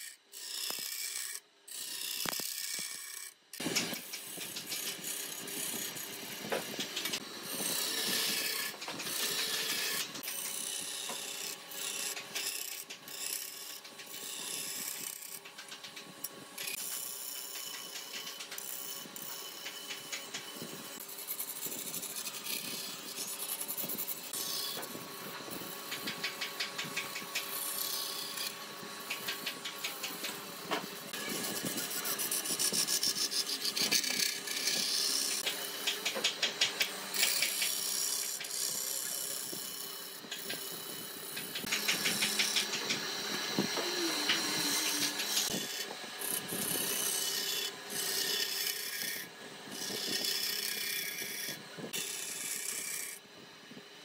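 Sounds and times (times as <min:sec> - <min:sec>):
lathe tool scraping wood: 0:00.0 - 0:54.0
lathe motor hum: 0:03.1 - 0:54.0.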